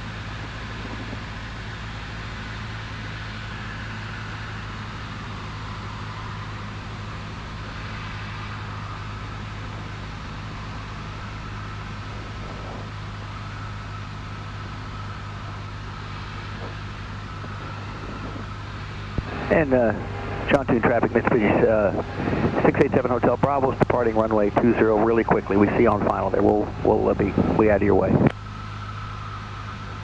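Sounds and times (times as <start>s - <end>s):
light aircraft engine drone: 0.0s - 30.0s.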